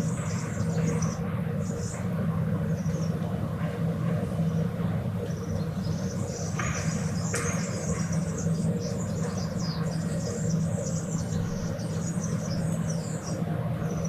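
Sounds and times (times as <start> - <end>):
small birds chirping: 0.0 - 3.2, 4.3 - 14.0
distant city traffic hum: 0.0 - 14.0.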